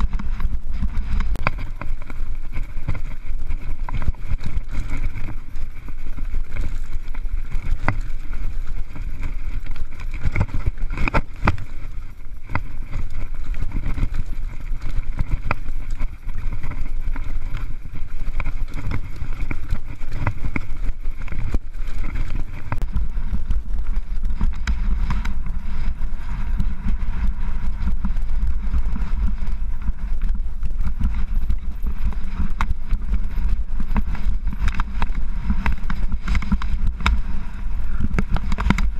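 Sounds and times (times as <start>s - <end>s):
mountain bike rattling over rocks: 0.0s - 38.9s
wind rumbling on microphone: 0.0s - 38.9s.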